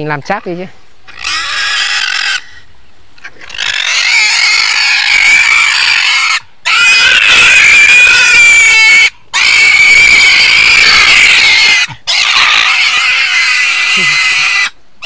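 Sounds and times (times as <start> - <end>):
pig squealing: 0.4 - 14.8.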